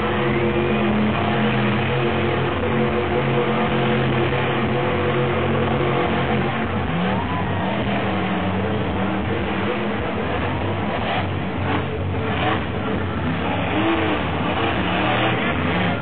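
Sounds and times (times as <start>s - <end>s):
monster truck engine running: 0.0s - 16.0s.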